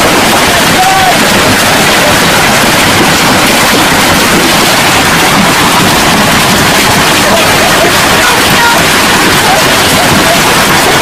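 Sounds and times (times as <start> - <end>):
heavy hail pelting down: 0.0 - 11.0.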